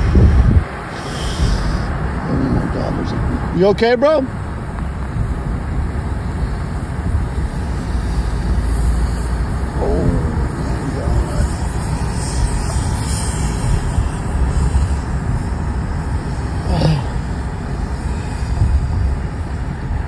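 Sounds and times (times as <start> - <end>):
road and wind noise in car: 0.0 - 20.0.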